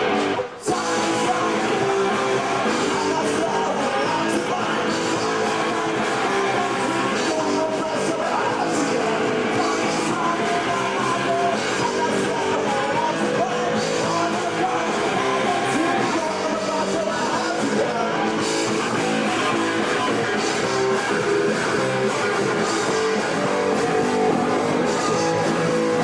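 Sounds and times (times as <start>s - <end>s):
bass and drums: 0.0s - 26.0s
electric guitars strummed: 0.0s - 26.0s
person singing: 0.0s - 26.0s.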